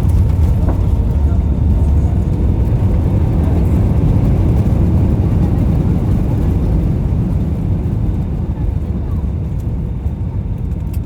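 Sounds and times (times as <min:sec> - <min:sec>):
airplane engines rumbling in cabin: 0:00.0 - 0:11.0.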